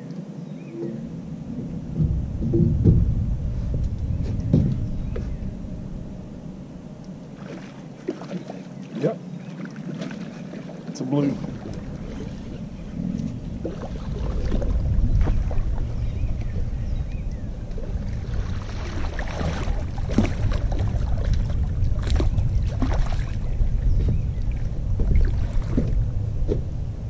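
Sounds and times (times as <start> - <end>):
wind rumble on microphone: 0.0 - 9.4, 10.9 - 27.0
water splashes and knocks: 0.8 - 5.4, 7.4 - 16.7, 17.3 - 26.7.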